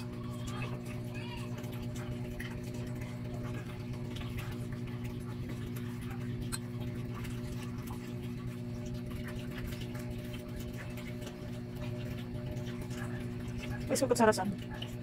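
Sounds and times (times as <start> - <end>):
low multi-tone hum: 0.0 - 15.0.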